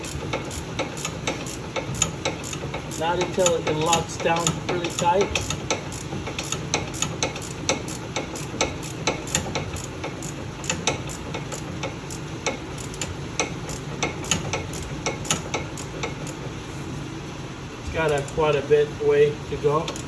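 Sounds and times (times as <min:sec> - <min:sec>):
hand ratchet clicking: 0:00.0 - 0:16.4.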